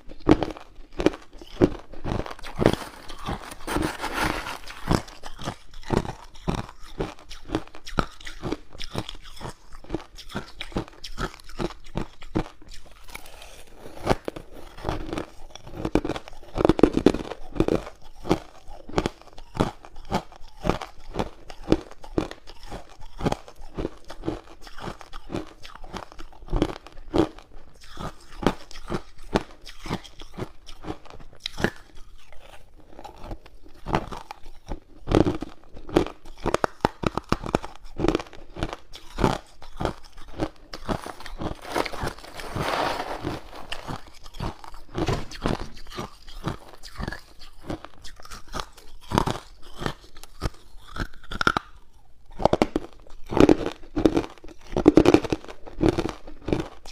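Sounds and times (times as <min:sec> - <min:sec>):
person crunching ice cubes: 0:00.1 - 0:56.9.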